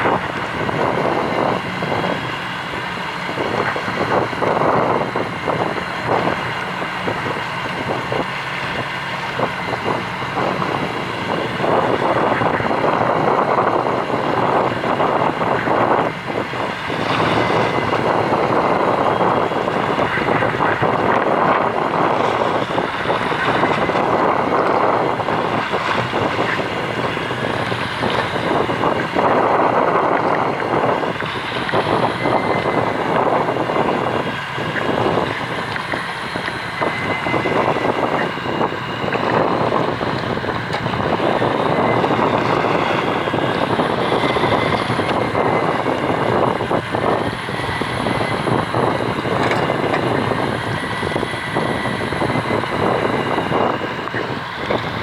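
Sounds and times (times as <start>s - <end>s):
boat engine running: 0.0s - 55.0s
faint wavering whine: 0.0s - 55.0s.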